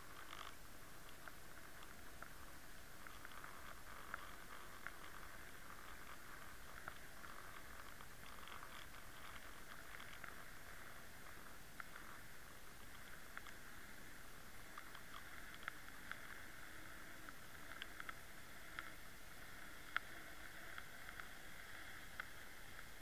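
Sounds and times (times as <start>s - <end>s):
faint underwater hiss: 0.0s - 23.0s
sharp underwater clicks: 0.0s - 23.0s.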